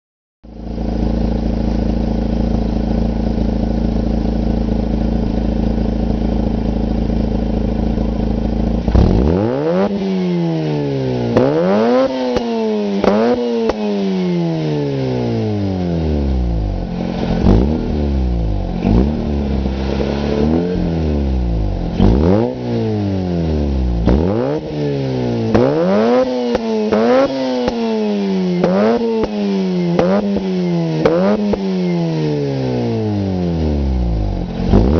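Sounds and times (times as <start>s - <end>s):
rotary engine idling and revving: 0.6s - 34.9s.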